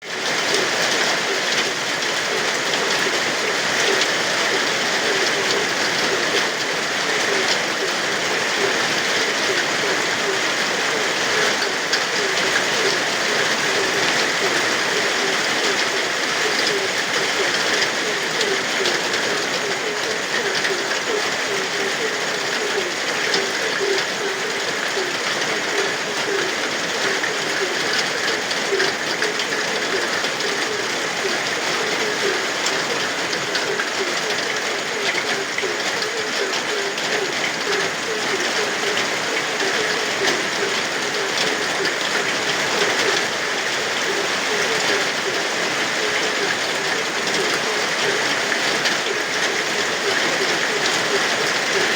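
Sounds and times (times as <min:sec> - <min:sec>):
frogs croaking: 0:00.0 - 0:51.9
steady rain: 0:00.0 - 0:51.9.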